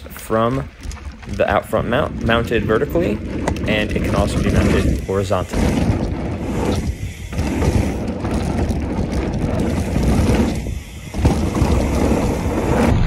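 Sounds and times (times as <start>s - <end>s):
bike rattling over bumps: 0.0s - 13.0s
tyres rumbling on dirt: 0.0s - 13.0s
wind buffeting microphone: 0.0s - 13.0s.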